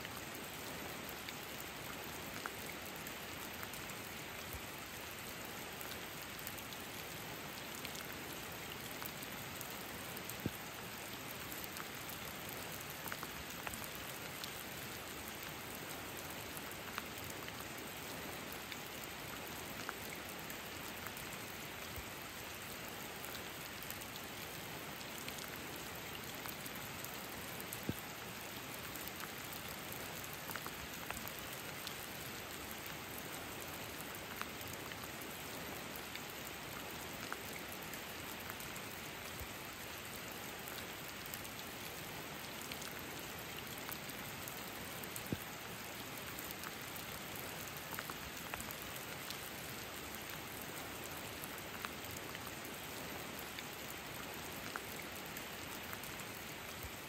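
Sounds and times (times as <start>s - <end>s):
raindrops striking close by: 0.0s - 57.0s
steady rain hiss: 0.0s - 57.0s.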